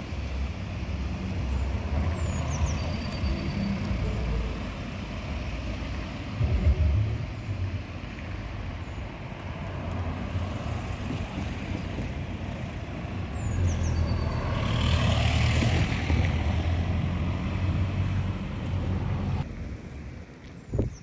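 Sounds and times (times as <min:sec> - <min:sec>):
road traffic passing: 0:00.0 - 0:21.0
vehicle rumble: 0:00.0 - 0:21.0.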